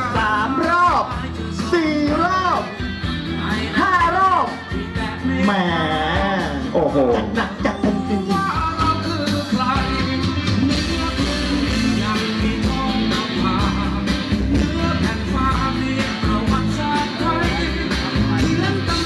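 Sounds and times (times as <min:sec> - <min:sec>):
person singing: 0:00.0 - 0:19.0
steady drum beat: 0:00.0 - 0:19.0.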